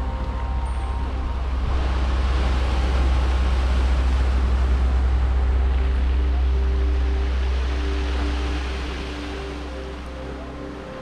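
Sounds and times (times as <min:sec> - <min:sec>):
deep rumble: 0:00.0 - 0:10.2.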